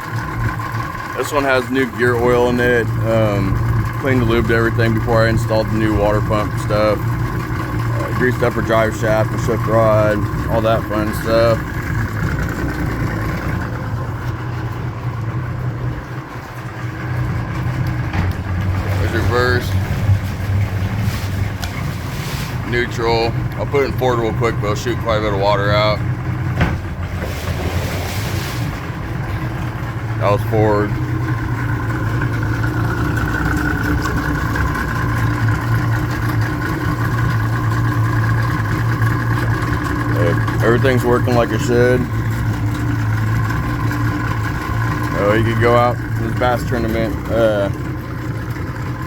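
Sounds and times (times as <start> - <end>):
outboard motor idling: 0.0 - 49.0.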